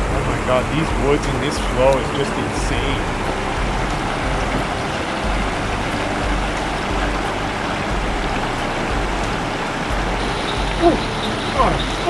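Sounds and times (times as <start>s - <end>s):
water rushing over dam: 0.0s - 12.0s.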